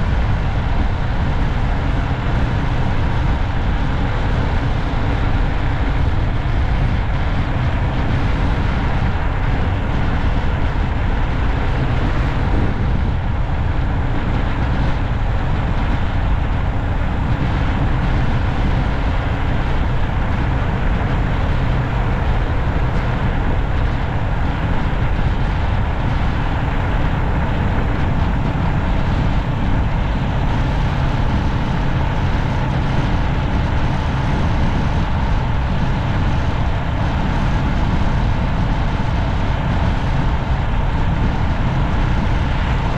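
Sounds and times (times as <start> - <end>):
vehicle road rumble: 0.0 - 42.9.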